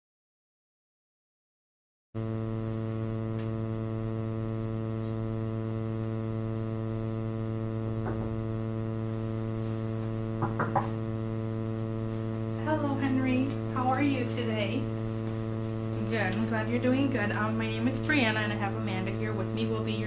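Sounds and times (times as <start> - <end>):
electrical mains hum: 2.2 - 20.0.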